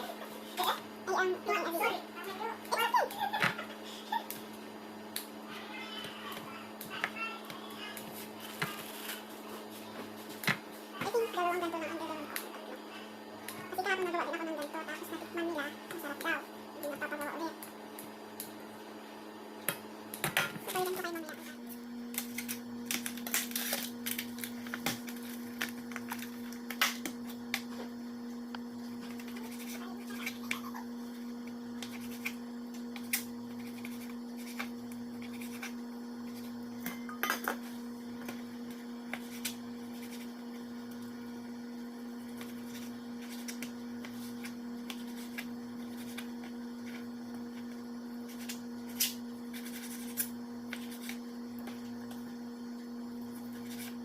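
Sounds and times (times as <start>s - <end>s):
kitchen appliance hum: 0.0s - 54.0s.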